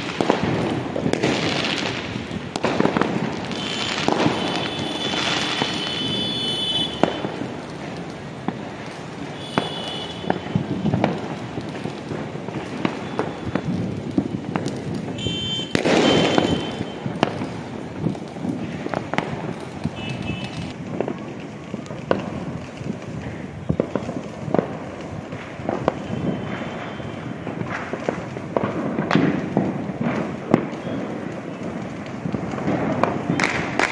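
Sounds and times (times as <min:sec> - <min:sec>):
firecrackers crackling: 0:00.0 - 0:33.9
fireworks bangs and pops: 0:00.0 - 0:33.9.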